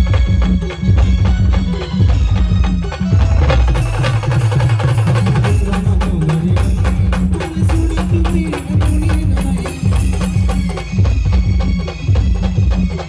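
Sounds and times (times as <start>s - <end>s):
drum and percussion strokes: 0.0s - 13.0s.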